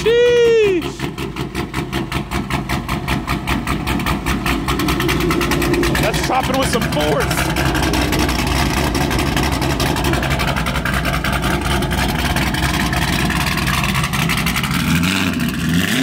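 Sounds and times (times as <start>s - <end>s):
car engine idling with choppy lope: 0.0s - 16.0s.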